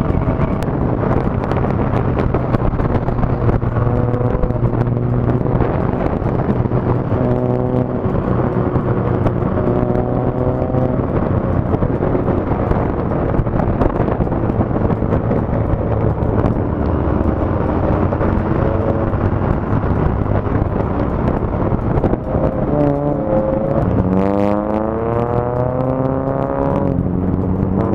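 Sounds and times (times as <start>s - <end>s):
motorcycle engine: 0.0s - 27.9s
wind rush on microphone: 0.0s - 27.9s.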